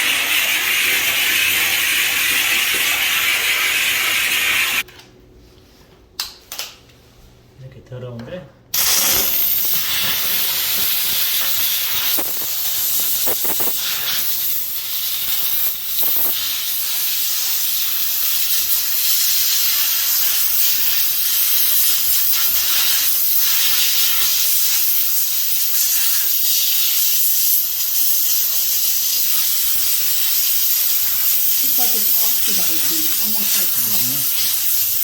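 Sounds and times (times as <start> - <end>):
steam cleaner hissing: 0.0 - 4.8, 8.8 - 35.0.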